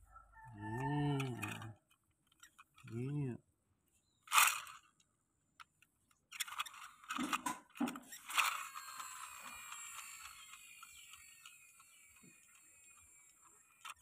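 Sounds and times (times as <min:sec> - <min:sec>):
toy roller crunching over dirt: 0:00.5 - 0:03.4, 0:04.0 - 0:05.0, 0:05.6 - 0:14.0.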